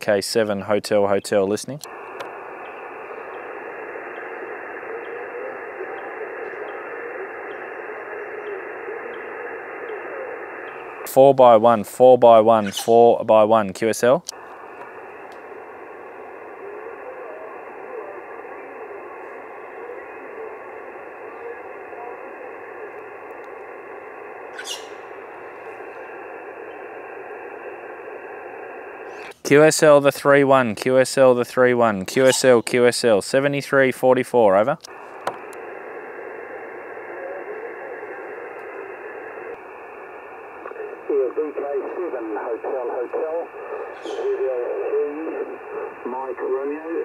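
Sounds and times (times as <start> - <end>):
radio band noise hiss: 0.0 - 47.0
faint radio voice: 1.6 - 24.5, 25.6 - 33.2, 34.4 - 47.0.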